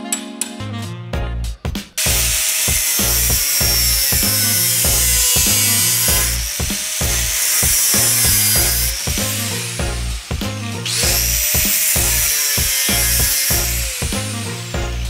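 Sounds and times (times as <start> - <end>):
background music with beat: 0.0 - 15.0
angle grinder cutting metal: 2.0 - 15.0.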